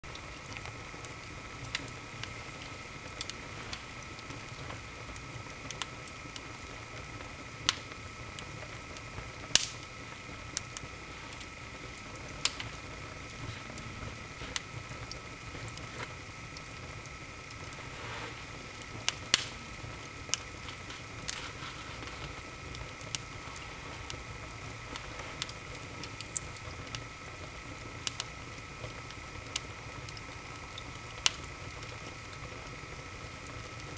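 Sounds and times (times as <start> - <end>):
low fire hiss: 0.0 - 33.9
wood fire crackling and popping: 0.0 - 33.9.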